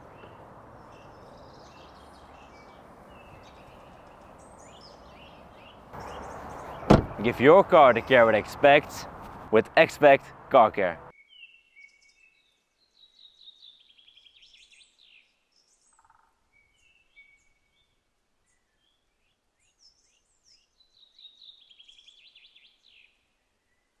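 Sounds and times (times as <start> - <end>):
songbirds singing: 0.0 - 9.2, 11.1 - 24.0.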